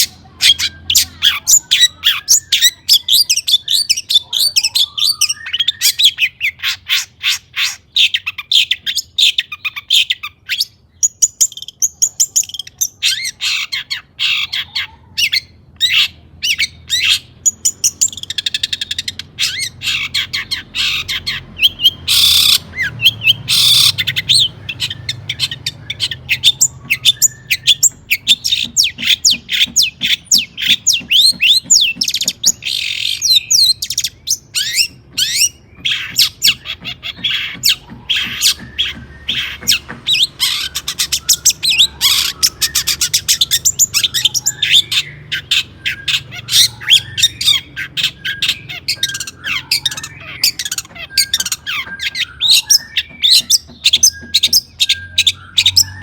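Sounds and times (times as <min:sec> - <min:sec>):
bird singing rapid chirps: 0:00.0 - 0:56.0
harsh rasping bird calls: 0:00.0 - 0:56.0.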